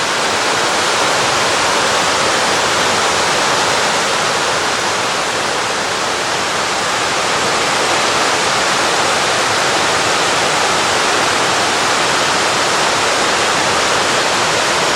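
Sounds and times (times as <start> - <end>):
stream rushing over rock: 0.0 - 14.9.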